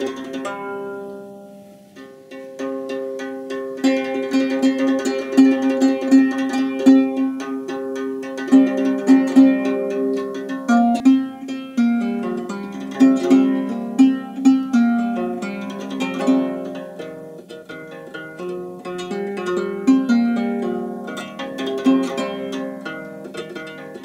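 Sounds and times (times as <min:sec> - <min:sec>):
plucked lyre: 0:00.0 - 0:24.0.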